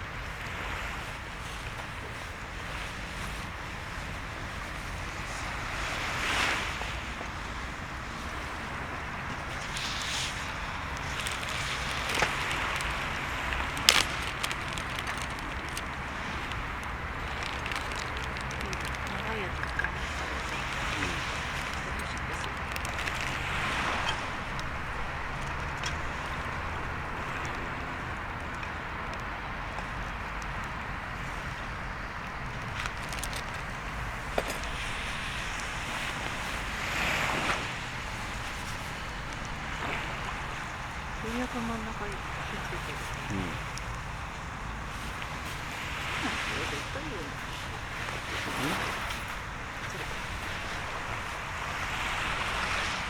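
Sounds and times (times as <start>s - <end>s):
surf washing on shore: 0.0s - 53.0s
wind buffeting microphone: 0.0s - 53.0s
wood bonfire crackling: 7.4s - 53.0s.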